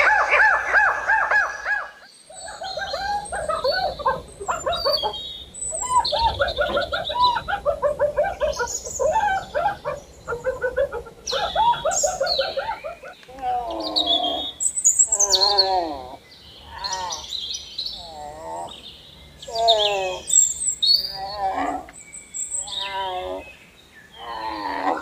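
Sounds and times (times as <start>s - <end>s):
animal chattering chirps: 0.0s - 23.5s.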